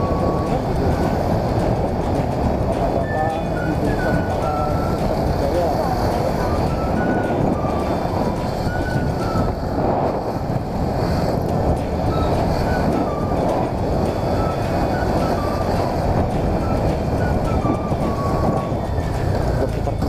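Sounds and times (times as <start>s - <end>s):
scooter engine rumble: 0.0s - 20.0s
tyres on road: 0.0s - 20.0s
wind rushing over microphone: 0.0s - 20.0s.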